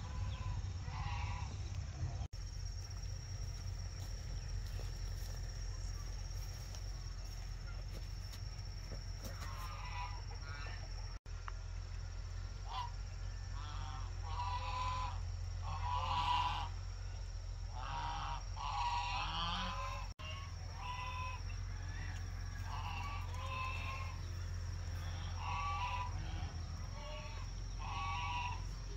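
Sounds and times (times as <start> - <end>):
farm animals calling: 0.0 - 11.2, 12.6 - 28.9
steady low hum: 0.0 - 28.9.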